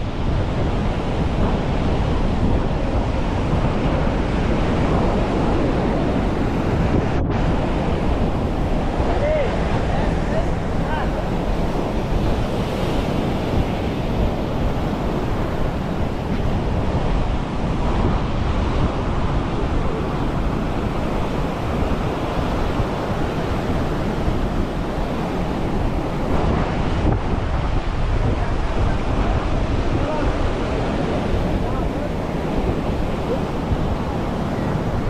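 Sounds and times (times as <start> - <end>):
surf washing onto beach: 0.0 - 35.0
wind buffeting microphone: 0.0 - 35.0.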